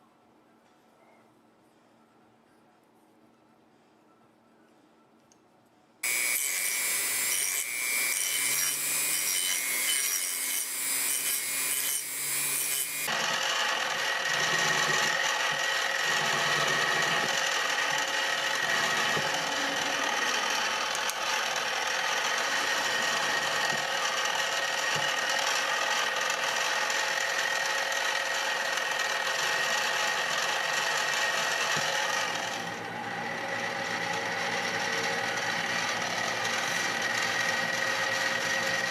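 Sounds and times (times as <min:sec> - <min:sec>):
power tool grinding: 0:06.0 - 0:38.9.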